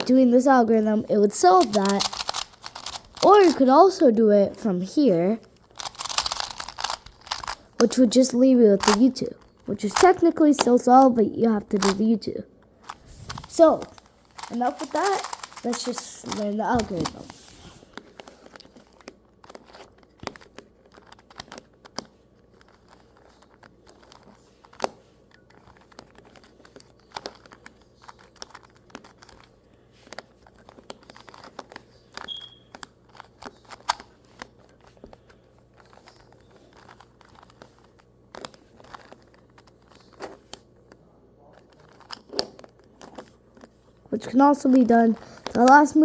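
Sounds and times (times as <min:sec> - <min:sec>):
soft plastic rubbing: 0:00.7 - 0:04.0, 0:05.1 - 0:10.6, 0:12.7 - 0:46.0
puzzle cube clicking as turned: 0:01.4 - 0:04.0, 0:05.5 - 0:11.1, 0:11.7 - 0:12.1, 0:12.8 - 0:17.4, 0:18.0 - 0:40.7, 0:41.5 - 0:43.8, 0:44.6 - 0:46.0.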